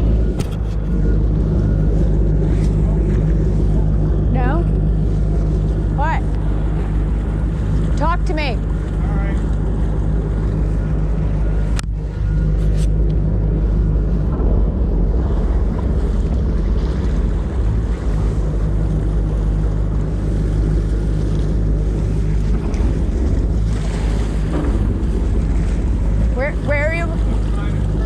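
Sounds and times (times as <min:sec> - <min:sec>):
boat engine running: 0:00.0 - 0:28.0
wind buffeting microphone: 0:00.0 - 0:28.0.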